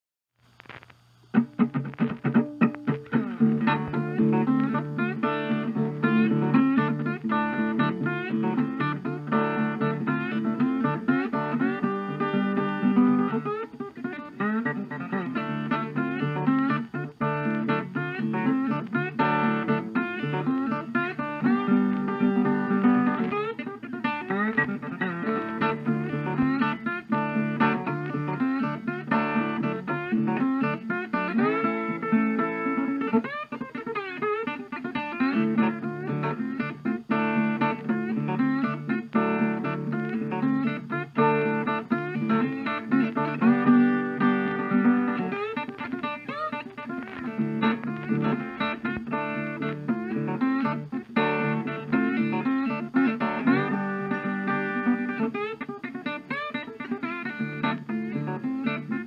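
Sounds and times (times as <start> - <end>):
acoustic guitar music: 0.5 - 59.0.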